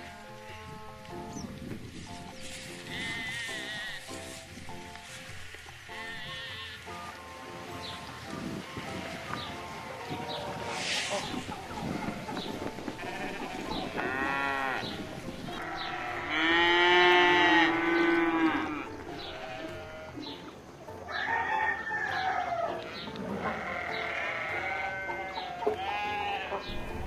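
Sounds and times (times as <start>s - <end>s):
livestock calling: 2.2s - 27.0s.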